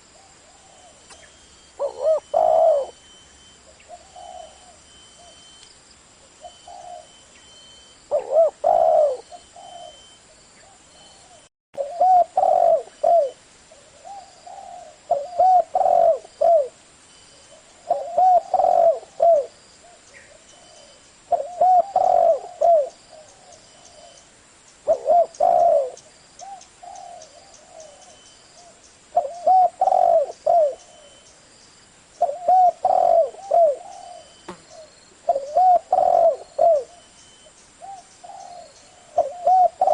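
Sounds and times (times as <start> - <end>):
dove cooing: 0.1 - 5.5, 6.2 - 7.2, 8.1 - 16.8, 17.4 - 24.2, 24.8 - 31.2, 32.2 - 37.2, 37.8 - 39.9.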